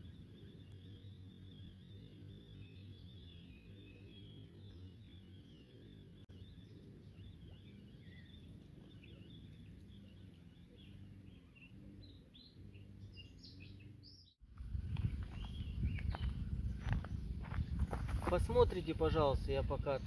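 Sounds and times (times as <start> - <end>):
birds chirping: 0.0 - 20.0
low steady hum: 0.0 - 20.0.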